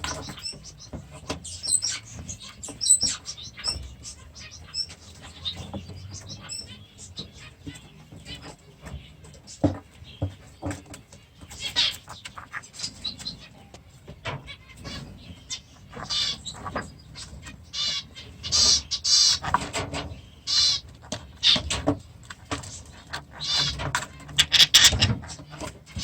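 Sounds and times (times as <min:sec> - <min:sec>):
budgerigars chattering and squawking: 0:00.0 - 0:26.0.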